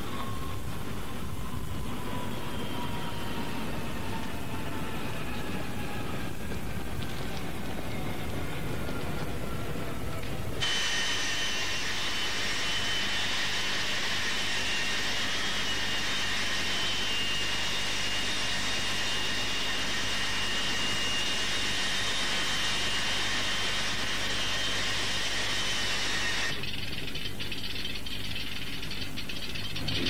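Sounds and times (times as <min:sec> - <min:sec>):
jet engines whining: 0:00.0 - 0:26.6.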